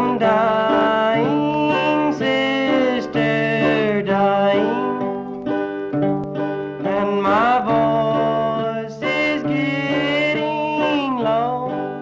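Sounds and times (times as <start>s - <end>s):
man singing a slow song: 0.0s - 5.4s, 6.8s - 12.0s
acoustic guitar: 0.0s - 12.0s.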